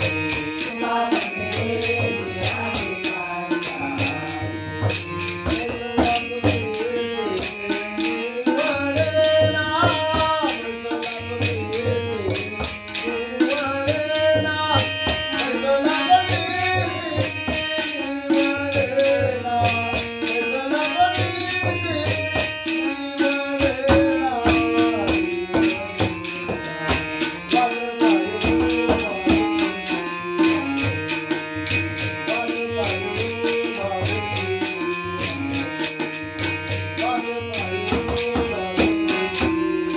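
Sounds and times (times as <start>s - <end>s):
instrumental accompaniment: 0.0s - 39.9s
jingling percussion beat: 0.0s - 39.9s
person singing devotional song: 0.0s - 39.9s.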